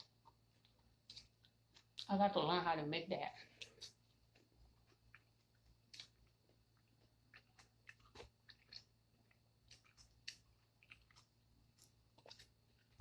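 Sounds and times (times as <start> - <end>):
chewing crunches: 0.0 - 2.1, 3.4 - 13.0.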